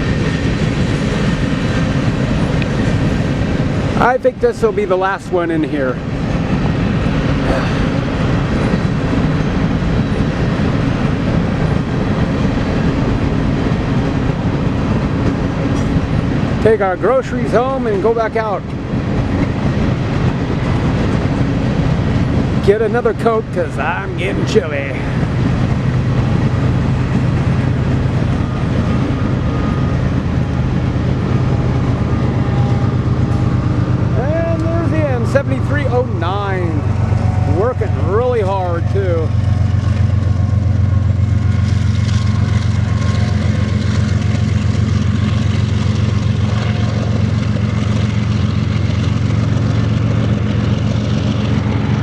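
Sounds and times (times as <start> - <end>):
freight train wheels rumbling on rail: 0.0 - 52.0.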